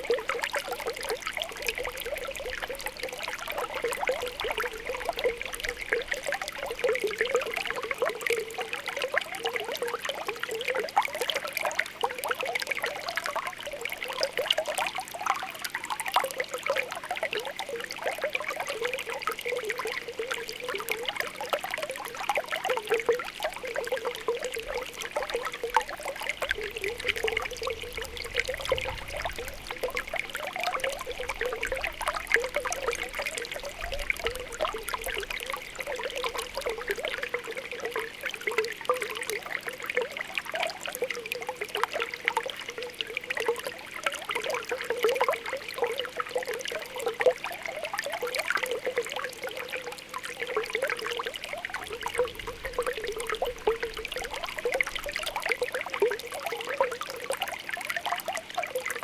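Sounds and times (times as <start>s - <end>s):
spring water bubbling: 0.0s - 59.0s
water trickling: 0.0s - 59.0s.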